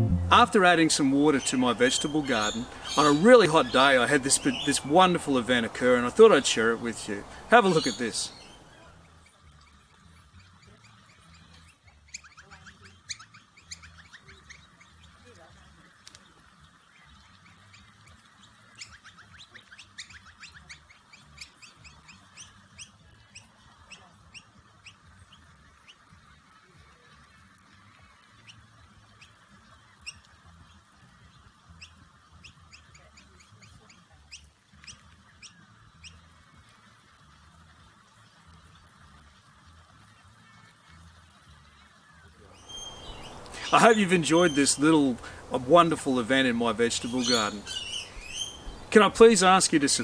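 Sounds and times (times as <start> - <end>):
faint steady hiss: 0.0 - 11.6, 13.6 - 50.0
small birds chirping: 0.0 - 50.0.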